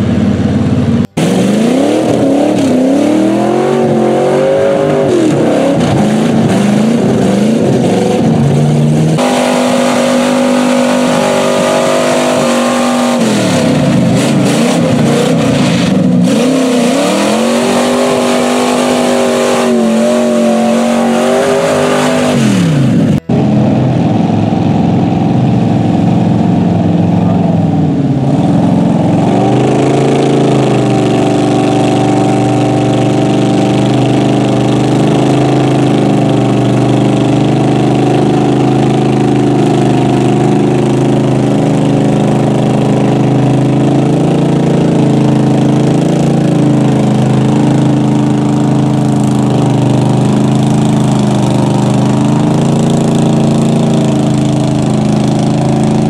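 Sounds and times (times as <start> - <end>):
truck engines revving in mud: 0.0 - 56.0.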